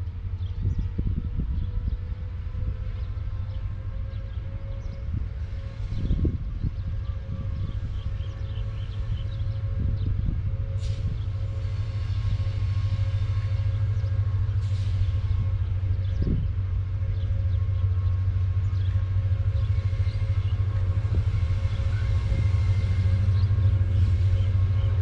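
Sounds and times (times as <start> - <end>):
locomotive engine rumble: 0.0 - 25.0.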